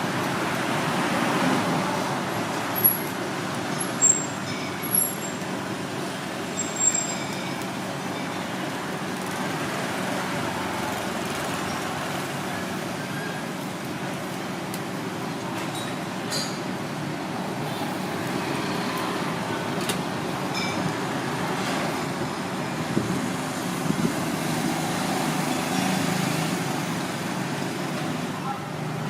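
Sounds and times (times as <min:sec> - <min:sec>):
street traffic: 0:00.0 - 0:29.0.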